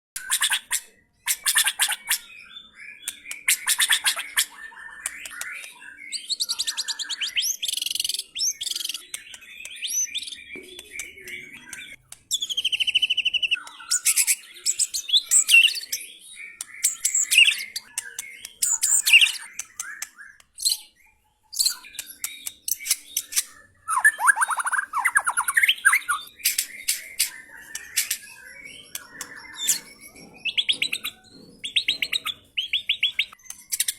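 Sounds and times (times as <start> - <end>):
bird singing chatters and trills: 0.2 - 33.9.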